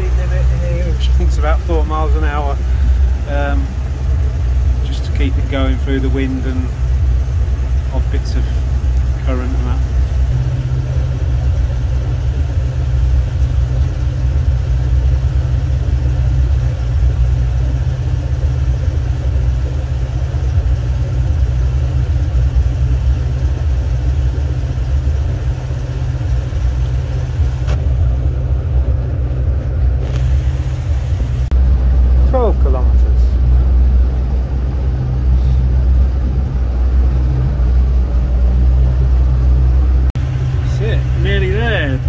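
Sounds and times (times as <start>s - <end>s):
boat engine low rumble: 0.0s - 42.0s.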